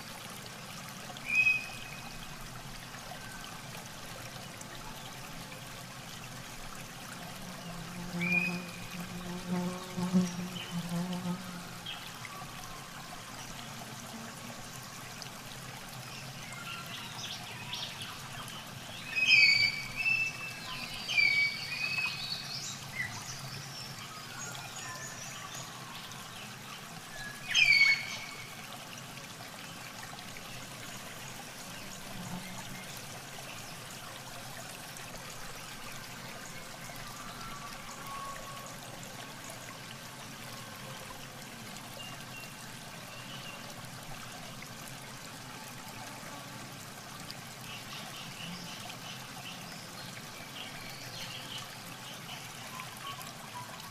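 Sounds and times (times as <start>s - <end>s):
trickling running water: 0.0s - 53.9s.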